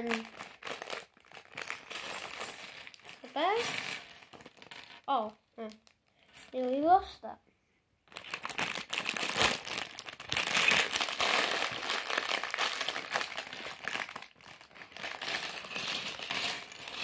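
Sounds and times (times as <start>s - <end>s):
plastic bag crinkling: 0.0s - 6.8s, 8.1s - 17.0s.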